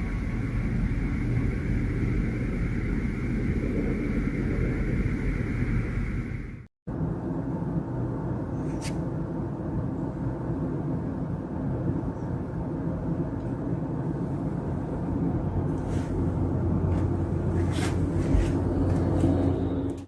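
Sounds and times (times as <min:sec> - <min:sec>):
low rumble with faint hum: 0:00.0 - 0:20.0.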